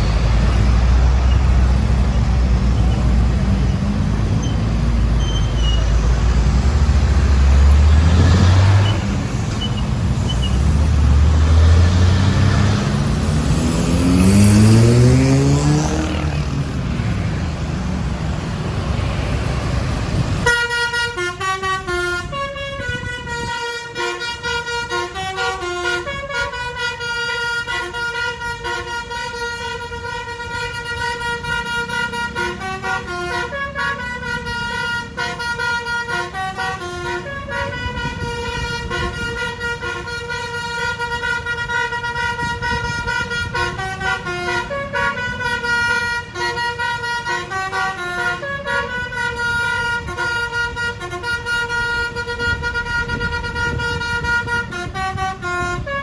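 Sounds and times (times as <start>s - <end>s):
multi-tone bus horn melody: 0.0s - 17.6s, 19.8s - 56.0s
bus engine revving: 0.0s - 56.0s.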